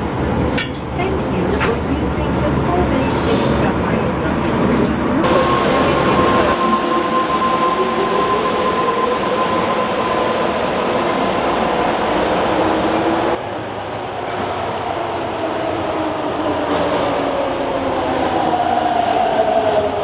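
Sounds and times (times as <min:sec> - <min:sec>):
rail and wheel noise: 0:00.0 - 0:20.0.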